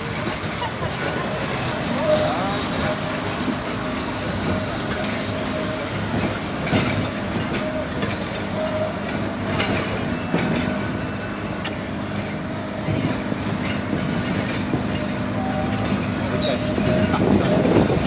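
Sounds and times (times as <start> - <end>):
tram mechanical hum: 0.0 - 18.0
wheels clicking over rails: 0.0 - 18.0.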